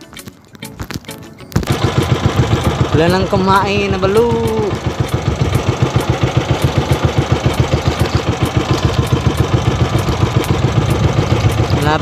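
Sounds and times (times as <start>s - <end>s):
boat engine chugging: 1.6s - 12.0s.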